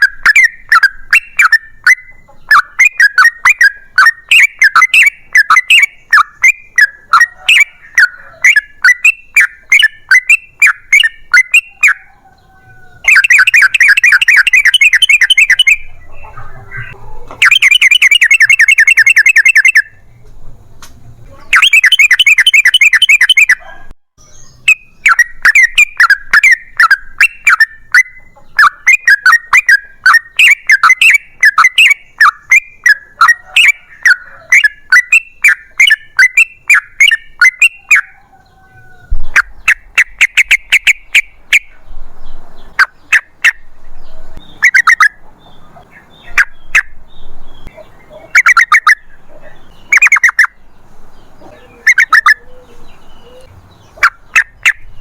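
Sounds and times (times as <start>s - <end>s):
bulbul song chattering and bubbling: 0.0s - 12.1s, 13.0s - 20.0s, 21.4s - 23.8s, 24.5s - 38.2s, 39.2s - 41.8s, 42.8s - 43.7s, 44.4s - 45.2s, 47.7s - 49.2s, 49.8s - 50.6s, 51.6s - 52.5s, 53.4s - 55.0s.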